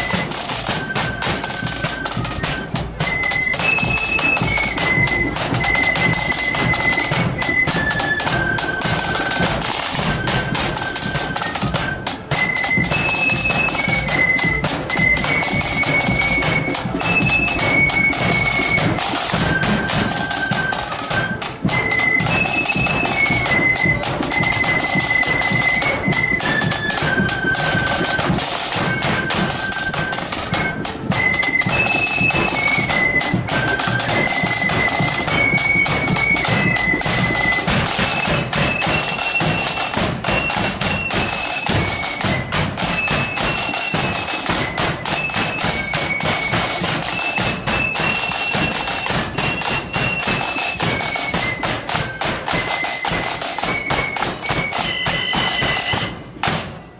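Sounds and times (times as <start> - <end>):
flute melody: 0.0 - 56.9
snare and bass drum beat: 0.0 - 56.9.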